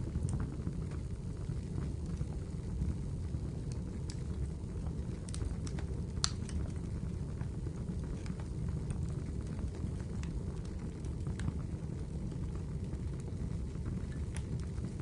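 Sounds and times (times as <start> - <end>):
fire crackles and pops: 0.0 - 15.0
wood fire roaring: 0.0 - 15.0.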